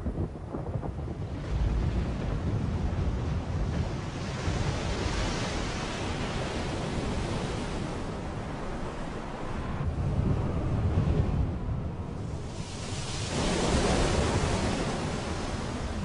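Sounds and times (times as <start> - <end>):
waves surging and breaking: 0.1 - 16.0.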